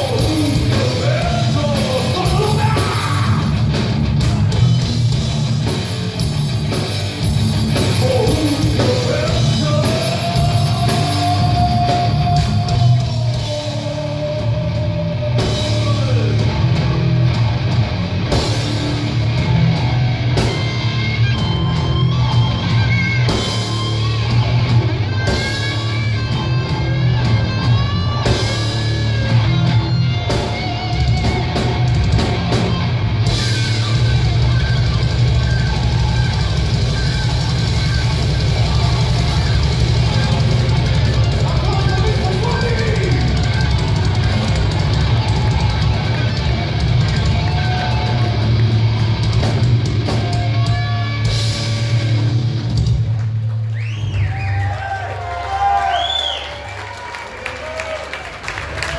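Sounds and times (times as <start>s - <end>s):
bending lead guitar notes: 0.0s - 53.2s
live rock band playing: 0.0s - 58.9s.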